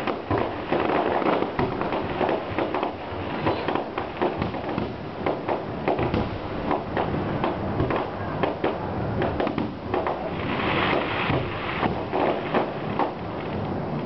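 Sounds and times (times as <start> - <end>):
crackling hiss: 0.0 - 14.0
fireworks bangs and pops: 0.0 - 14.0.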